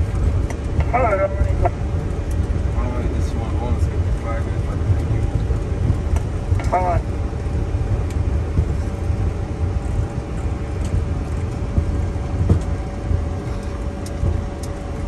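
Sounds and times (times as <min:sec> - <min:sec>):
aircraft rumbling on the ground: 0:00.0 - 0:15.0
faint jet engine whine: 0:00.0 - 0:15.0.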